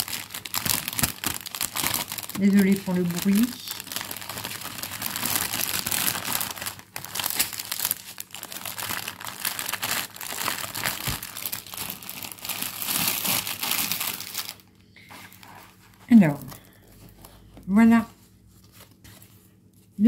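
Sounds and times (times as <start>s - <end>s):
plastic packaging crinkling: 0.0s - 17.6s.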